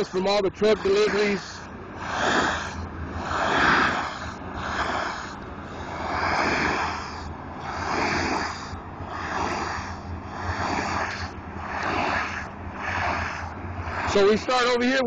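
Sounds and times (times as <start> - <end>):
pressure washer spray hissing: 0.0 - 14.9
steady low hum: 0.0 - 15.0.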